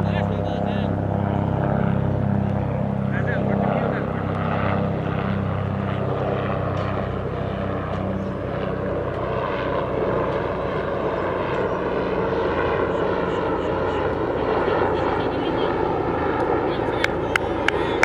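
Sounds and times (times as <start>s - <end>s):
engine drone: 0.0s - 18.0s.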